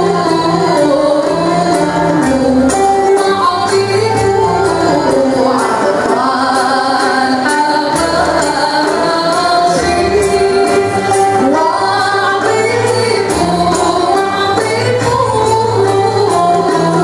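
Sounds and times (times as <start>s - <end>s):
instrumental ensemble: 0.0s - 17.0s
woman singing: 0.0s - 17.0s.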